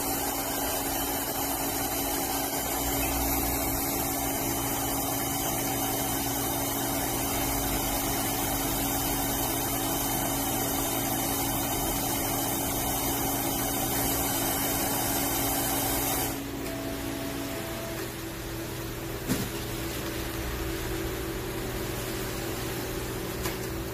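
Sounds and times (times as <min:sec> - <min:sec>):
welding machine hum and hiss: 0:00.0 - 0:23.9.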